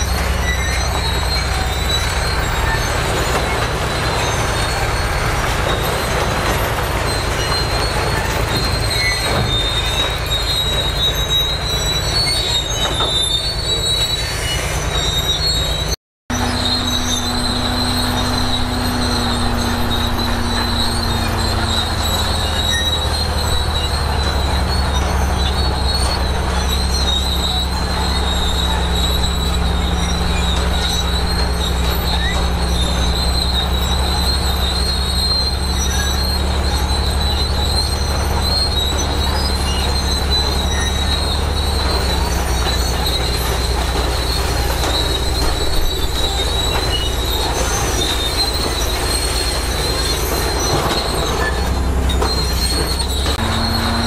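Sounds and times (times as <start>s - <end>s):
bulldozer diesel engine running: 0.0s - 54.0s
high-pitched squeal of steel tracks: 0.0s - 54.0s.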